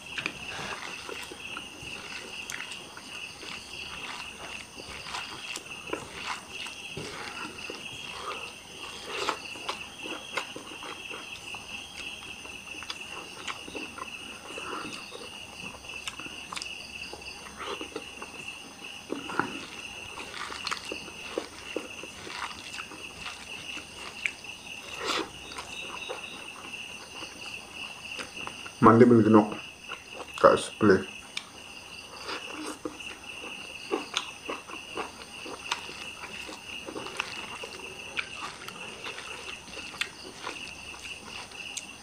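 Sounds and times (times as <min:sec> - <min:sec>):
wet chewing and smacking: 0:00.0 - 0:28.8, 0:29.6 - 0:30.4, 0:31.1 - 0:42.0
crickets chirping: 0:00.0 - 0:42.0.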